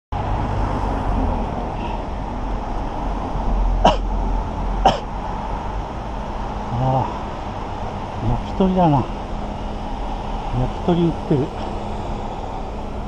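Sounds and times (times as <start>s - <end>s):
street rumble: 0.1s - 13.0s.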